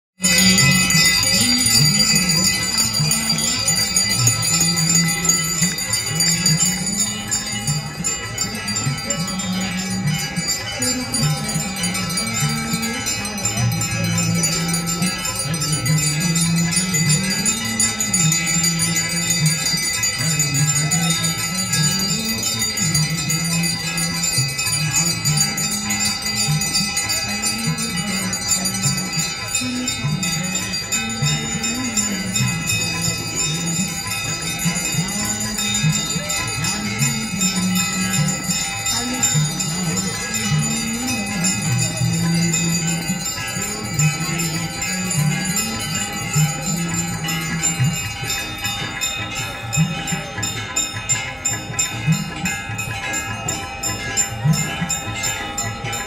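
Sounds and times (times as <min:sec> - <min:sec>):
many bells ringing: 0:00.1 - 0:56.0.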